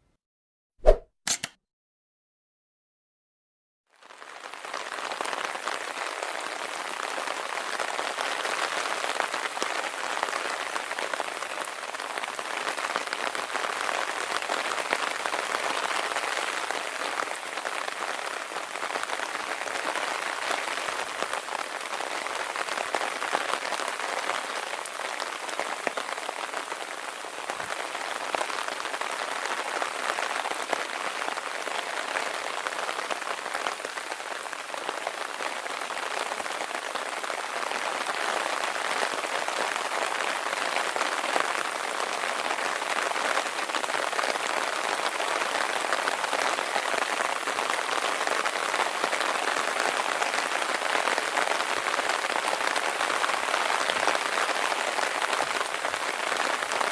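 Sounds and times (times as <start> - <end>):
heavy rain falling: 4.0 - 56.9.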